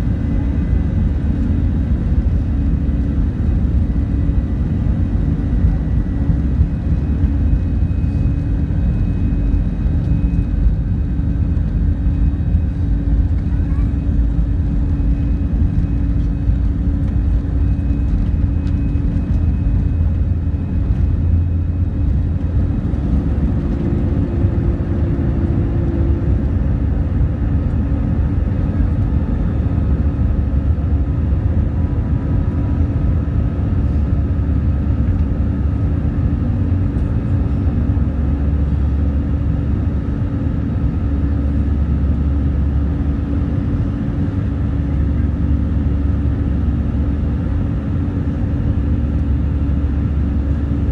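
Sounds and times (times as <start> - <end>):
jet engines roaring in cabin: 0.0 - 50.9.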